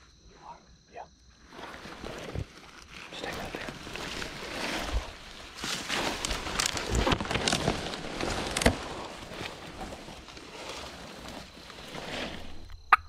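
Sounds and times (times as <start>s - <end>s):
dry grass rustling: 1.4s - 12.8s.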